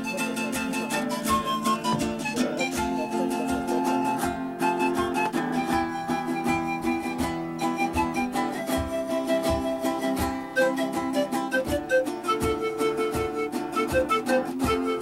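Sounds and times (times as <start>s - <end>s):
folk music with plucked strings: 0.0s - 15.0s.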